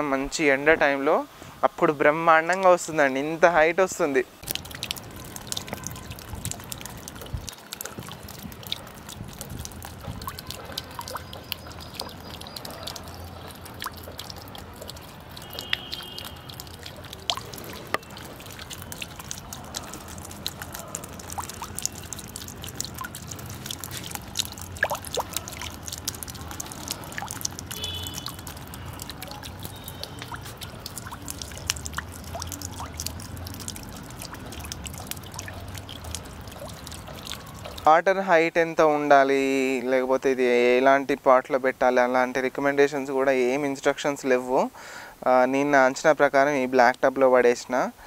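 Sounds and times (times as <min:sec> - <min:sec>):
fountain water splashing: 0:01.8 - 0:45.0.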